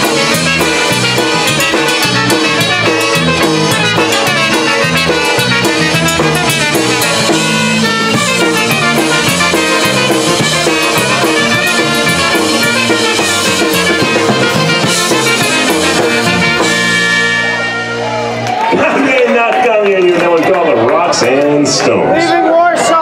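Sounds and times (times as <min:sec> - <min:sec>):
drum kit steady beat: 0:00.0 - 0:19.2
polka band horns: 0:00.0 - 0:19.6.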